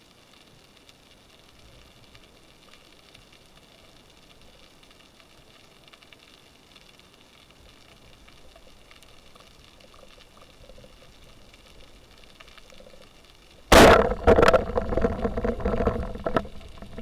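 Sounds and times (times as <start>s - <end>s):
crackling clicks: 0.0s - 17.0s.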